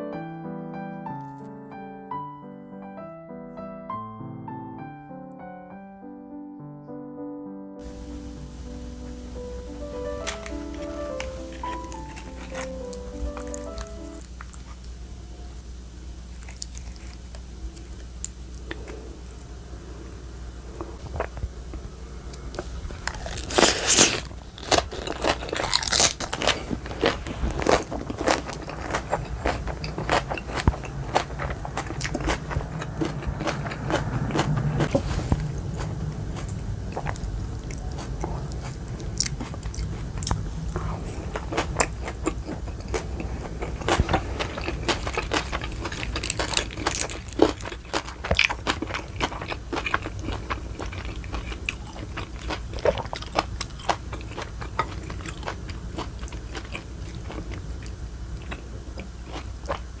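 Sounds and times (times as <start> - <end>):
mouth chewing food: 10.2 - 19.5, 20.7 - 60.0.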